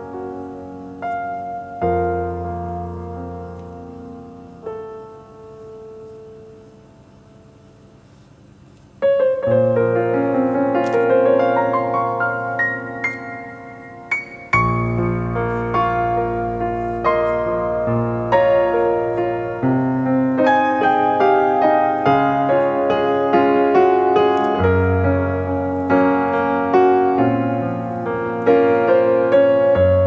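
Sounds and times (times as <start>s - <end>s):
piano music: 0.0s - 8.1s, 9.0s - 30.0s.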